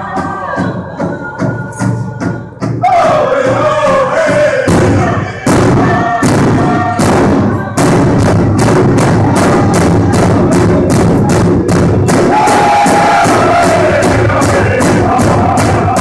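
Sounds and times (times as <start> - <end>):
big drum beating: 0.0 - 16.0
group singing: 0.0 - 16.0
lead voice singing: 0.0 - 16.0.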